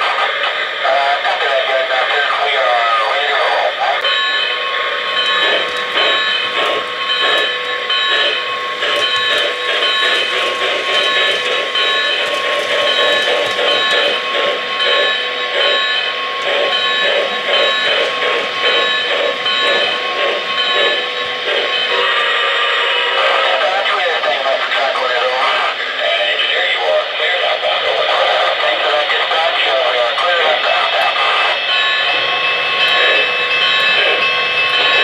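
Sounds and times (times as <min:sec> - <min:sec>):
model locomotive chuffing: 0:00.0 - 0:35.0
steady whine: 0:00.0 - 0:35.0
train wheels clicking on track: 0:03.9 - 0:25.7, 0:27.5 - 0:35.0.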